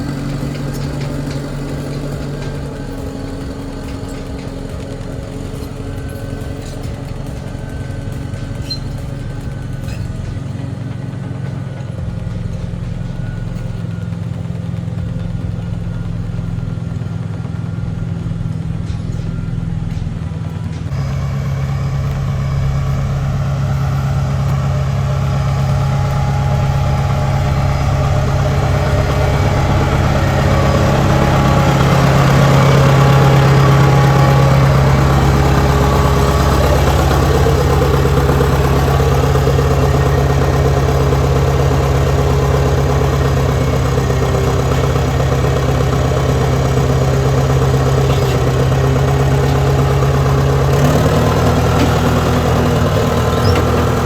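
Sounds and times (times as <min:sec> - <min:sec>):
track loader engine running: 0:00.0 - 0:54.0.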